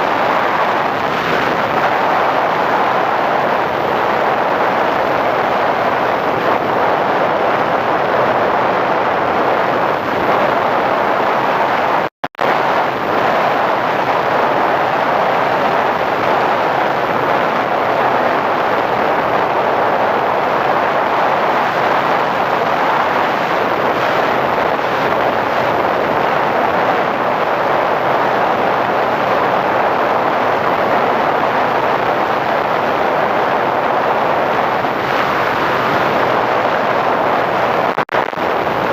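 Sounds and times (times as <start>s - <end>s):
rushing air and motor noise: 0.0s - 38.9s.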